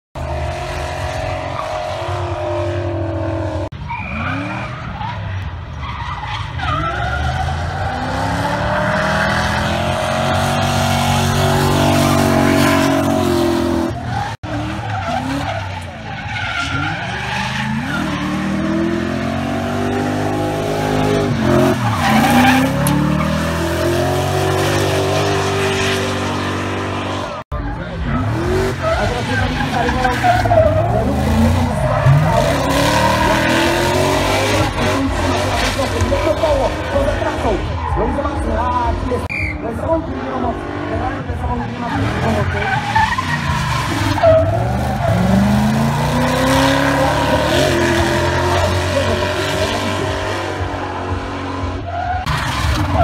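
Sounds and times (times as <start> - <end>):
tyres skidding and squealing: 0.2 - 53.0
car engine revving hard: 6.8 - 15.5, 16.7 - 27.4, 28.0 - 39.3, 40.2 - 53.0.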